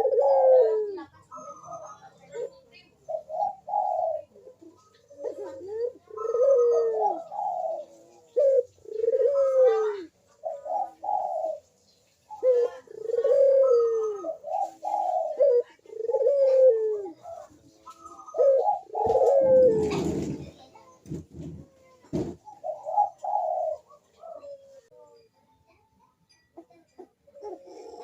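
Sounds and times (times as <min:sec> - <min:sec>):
doves cooing in rolling phrases: 0:00.0 - 0:25.1, 0:26.6 - 0:28.0.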